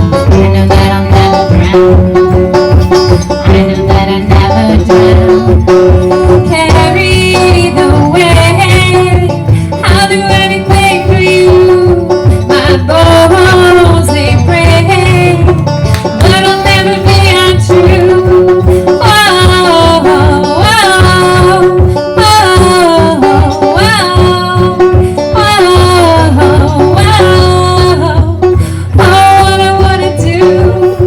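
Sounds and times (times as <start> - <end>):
acoustic folk-country music: 0.0 - 31.0.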